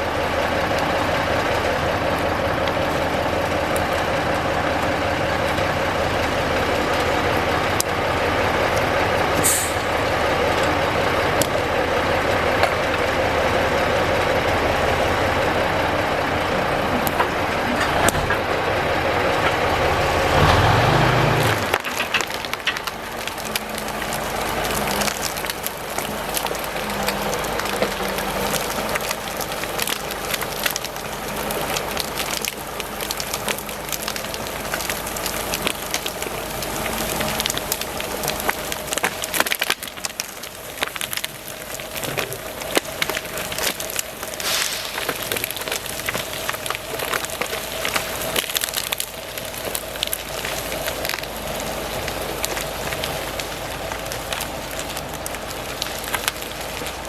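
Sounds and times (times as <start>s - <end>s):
wood and brush crackling: 0.0s - 57.0s.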